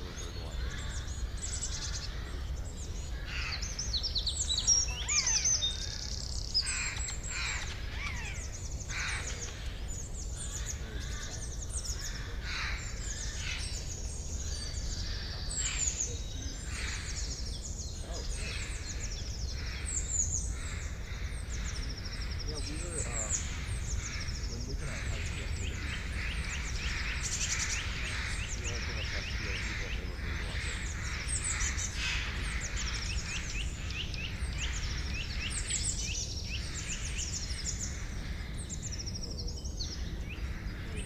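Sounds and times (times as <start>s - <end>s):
birds chirping and singing: 0.0s - 41.0s.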